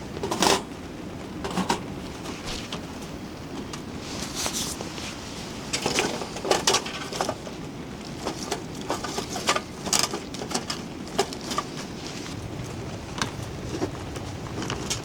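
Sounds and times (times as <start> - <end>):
rain hissing: 0.0 - 15.0.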